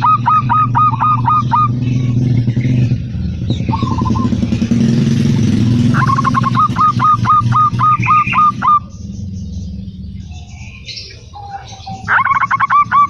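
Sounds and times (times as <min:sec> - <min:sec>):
dove cooing: 0:00.0 - 0:08.9, 0:10.3 - 0:13.0.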